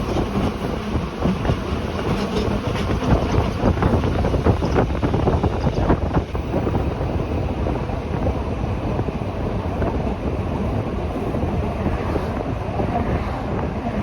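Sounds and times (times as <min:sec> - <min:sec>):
train rumbling on track: 0:00.0 - 0:14.0
wind noise on microphone: 0:00.0 - 0:14.0.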